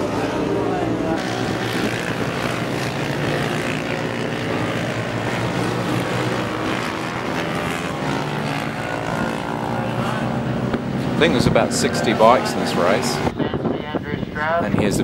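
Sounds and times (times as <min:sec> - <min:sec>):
racing motorcycle engines passing: 0:00.0 - 0:15.0.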